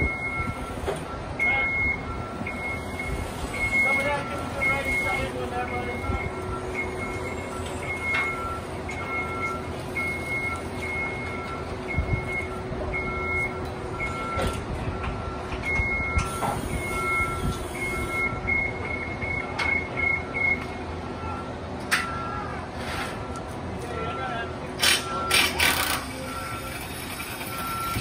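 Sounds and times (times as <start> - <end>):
high-pitched alarm beeping: 0.0 - 21.4, 23.2 - 28.0
lower alarm beeping: 0.0 - 22.5, 26.1 - 28.0.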